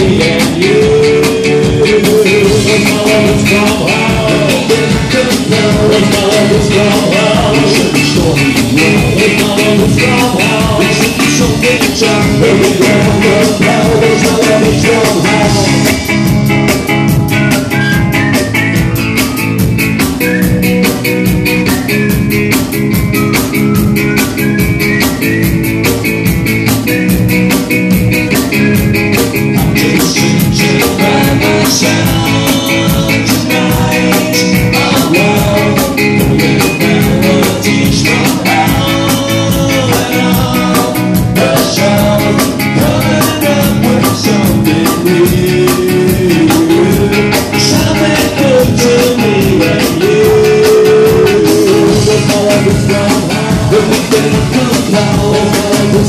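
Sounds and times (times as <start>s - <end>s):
drums beating: 0.0s - 56.0s
live rock band music: 0.0s - 56.0s.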